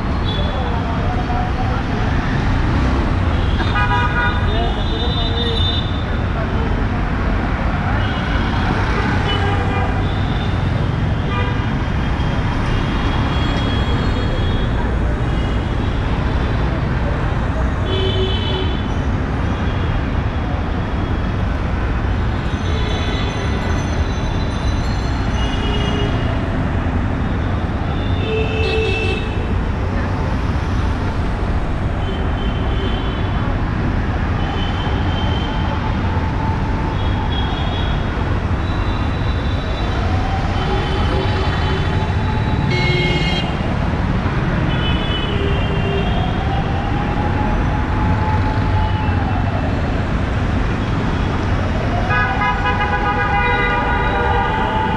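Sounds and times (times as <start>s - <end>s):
traffic engines and tyres: 0.0s - 54.9s.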